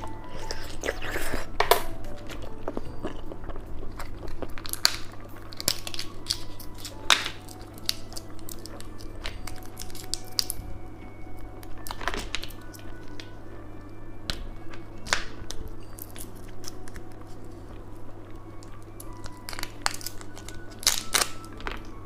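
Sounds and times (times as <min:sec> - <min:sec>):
chewing candy: 0:00.0 - 0:10.8, 0:14.7 - 0:22.0.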